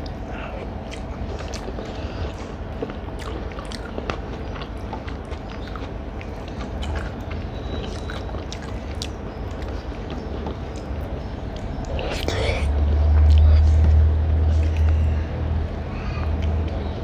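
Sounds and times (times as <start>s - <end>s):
person chewing food: 0.0s - 15.1s
steady low hum: 0.0s - 17.0s.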